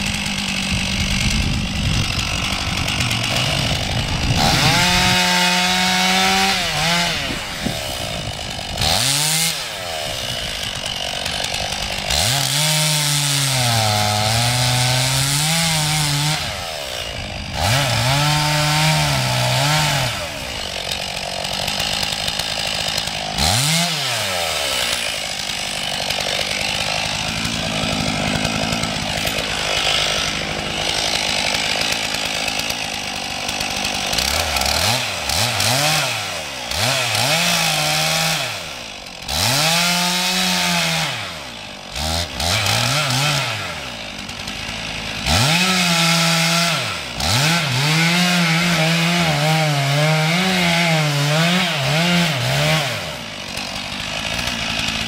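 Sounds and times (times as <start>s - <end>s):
chainsaw cutting tree trunk: 0.0s - 55.0s.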